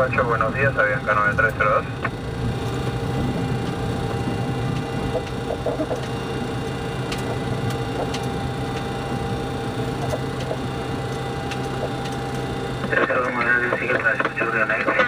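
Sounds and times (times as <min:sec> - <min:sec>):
jet engines idling: 0:00.0 - 0:15.0.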